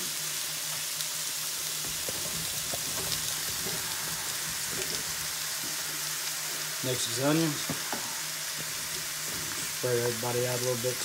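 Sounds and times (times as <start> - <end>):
squash sizzling in a pan: 0.0 - 11.0
faint crackles: 0.7 - 11.0.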